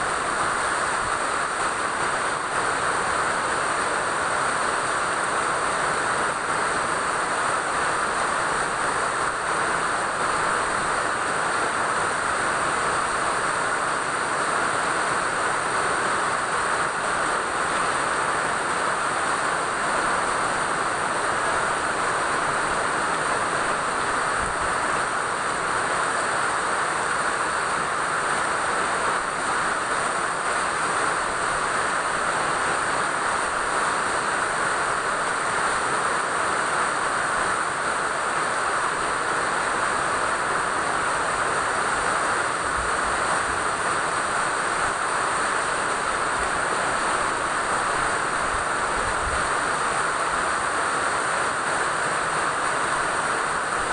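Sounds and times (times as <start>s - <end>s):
steady rainfall hiss: 0.0s - 53.9s.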